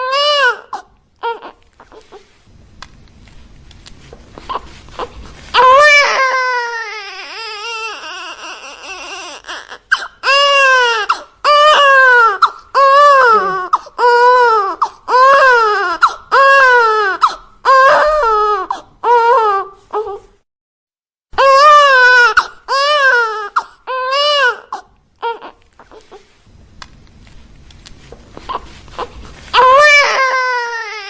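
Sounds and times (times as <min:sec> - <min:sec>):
baby crying: 0:00.0 - 0:02.2, 0:04.4 - 0:20.3, 0:21.4 - 0:26.2, 0:28.4 - 0:31.0.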